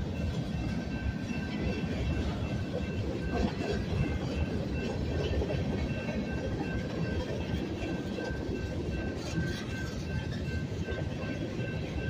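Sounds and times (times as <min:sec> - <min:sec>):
crossing warning bell ringing: 0:00.0 - 0:12.0
train wheels rumbling on rails: 0:00.0 - 0:12.0.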